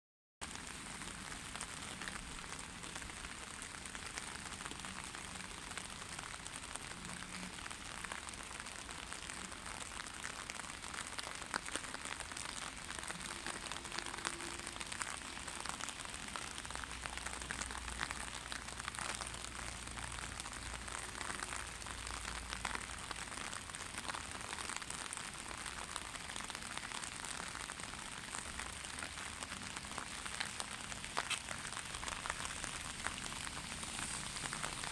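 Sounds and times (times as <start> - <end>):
steady rain falling: 0.4 - 34.9.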